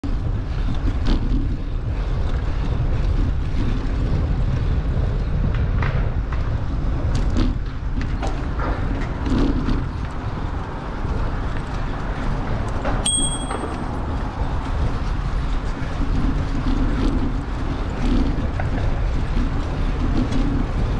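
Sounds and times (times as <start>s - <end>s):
bicycle tyre noise: 0.0s - 20.9s
bike clicks and rattles: 0.0s - 20.9s
wind on microphone: 0.0s - 20.9s.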